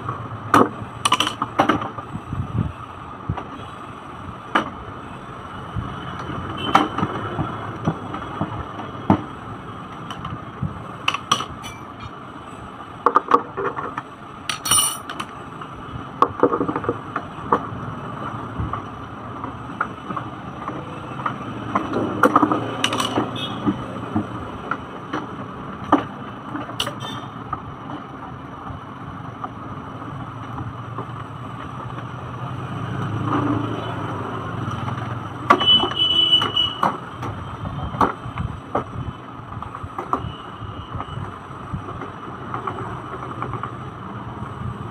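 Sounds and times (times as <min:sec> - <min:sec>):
steady background noise: 0:00.0 - 0:44.9.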